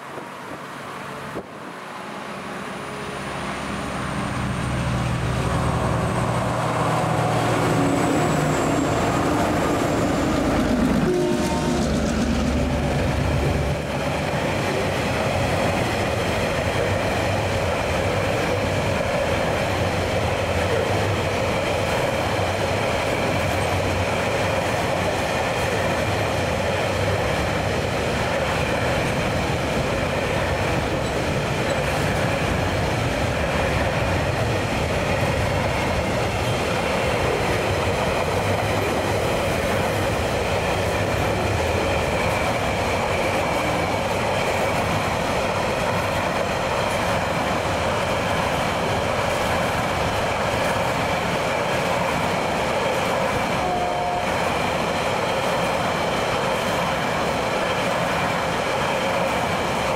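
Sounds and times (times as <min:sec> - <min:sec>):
train wheels clattering on rails: 0:04.1 - 0:59.9.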